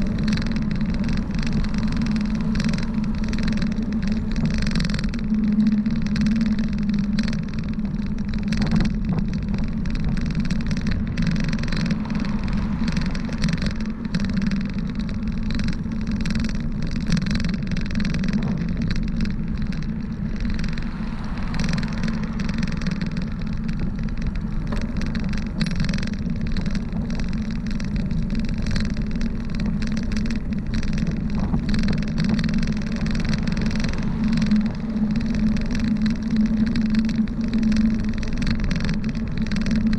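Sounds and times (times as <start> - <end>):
bicycle road noise: 0.0 - 39.9.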